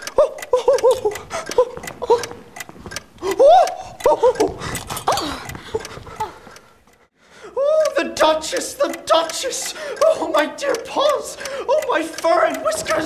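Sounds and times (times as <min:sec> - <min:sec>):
clock ticking: 0:00.0 - 0:13.0.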